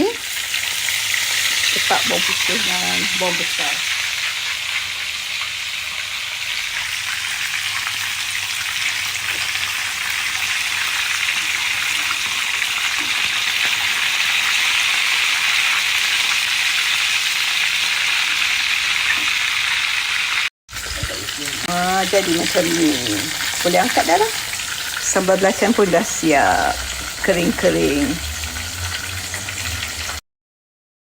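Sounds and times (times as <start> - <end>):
fish sizzling in hot oil: 0.0 - 30.2.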